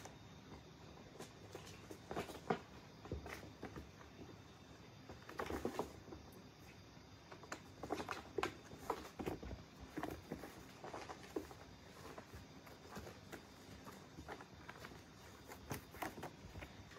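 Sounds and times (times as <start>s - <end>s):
kittens' paws scrabbling on cardboard: 0.5s - 6.4s, 7.3s - 16.9s.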